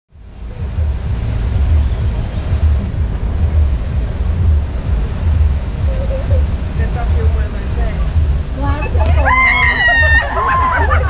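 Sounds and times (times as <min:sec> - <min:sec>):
passing cars rumbling: 0:00.1 - 0:11.0.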